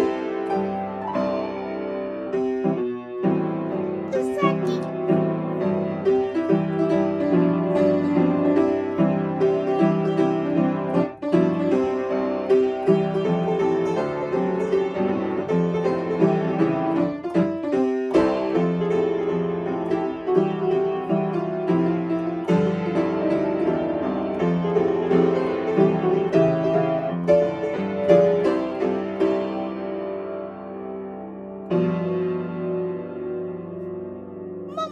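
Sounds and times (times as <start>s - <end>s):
upright piano playing: 0.0s - 34.9s.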